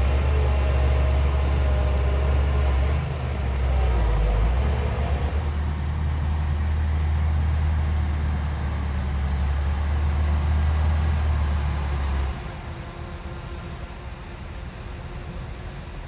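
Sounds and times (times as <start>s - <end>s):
heavy diesel engine drone: 0.0s - 16.0s.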